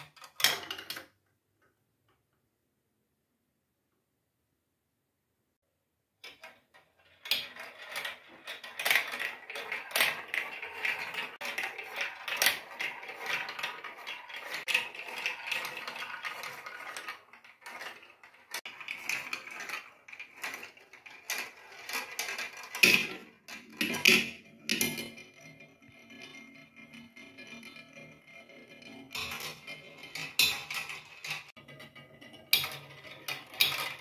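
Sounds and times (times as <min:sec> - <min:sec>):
marbles rattling down plastic track: 0:06.2 - 0:34.0.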